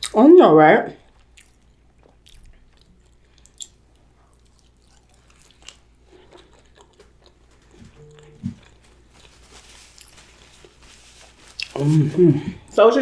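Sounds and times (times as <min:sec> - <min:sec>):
person chewing food: 0:00.0 - 0:00.2, 0:01.0 - 0:12.8.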